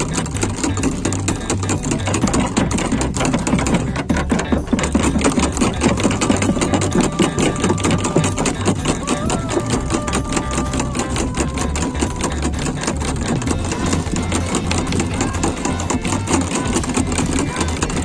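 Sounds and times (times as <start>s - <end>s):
small boat engine clattering: 0.0s - 18.0s.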